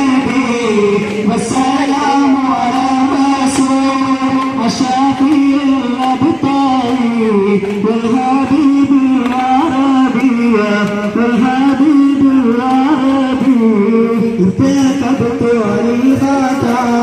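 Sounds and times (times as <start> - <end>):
quick steady percussion beat: 0.0 - 17.0.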